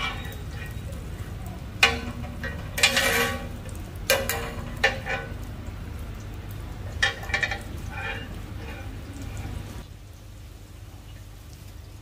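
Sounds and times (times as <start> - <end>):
metal utensils clanking on pan: 0.0 - 9.8
low rumble of street noise: 0.0 - 12.0.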